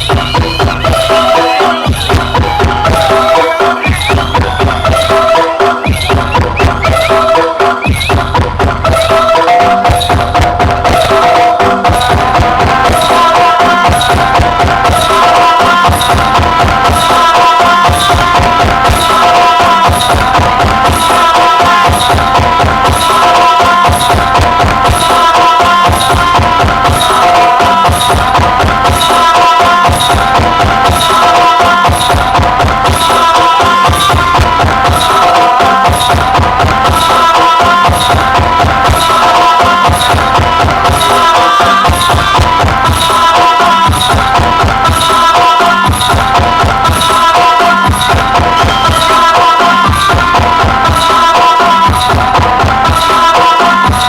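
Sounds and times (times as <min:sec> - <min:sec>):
loud dance music: 0:00.0 - 0:54.0.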